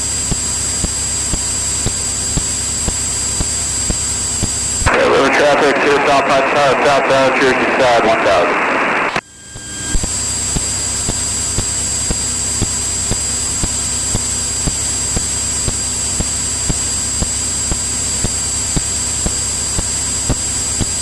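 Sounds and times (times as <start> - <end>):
thin high whine: 0.0 - 21.0.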